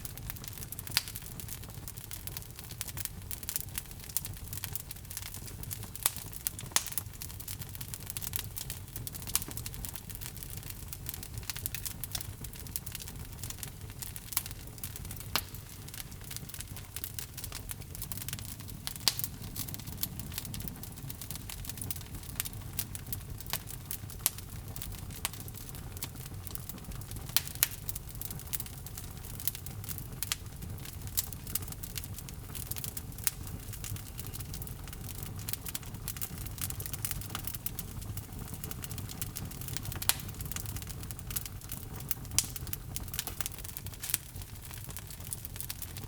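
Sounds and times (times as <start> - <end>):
log fire crackling and popping: 0.0 - 46.0
low rumble of flame: 0.0 - 46.0.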